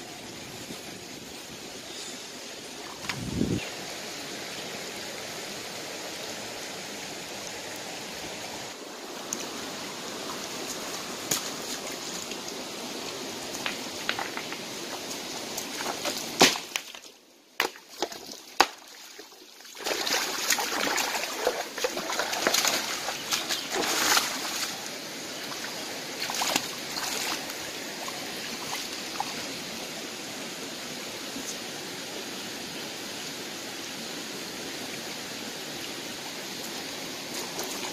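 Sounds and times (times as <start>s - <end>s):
stream running over rocks: 0.0s - 37.9s.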